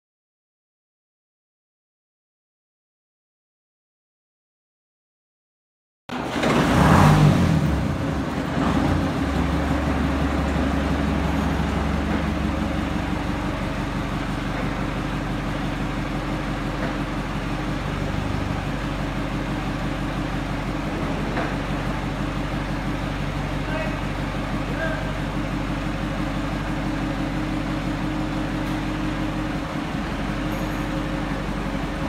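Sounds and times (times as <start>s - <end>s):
diesel locomotive engine running: 6.1s - 32.0s.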